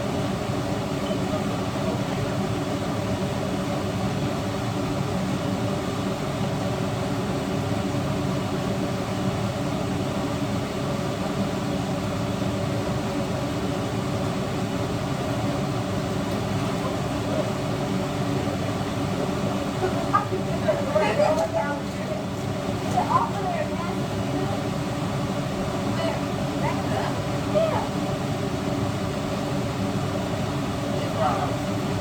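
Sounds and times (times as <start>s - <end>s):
fan motor whirring hum: 0.0s - 32.0s.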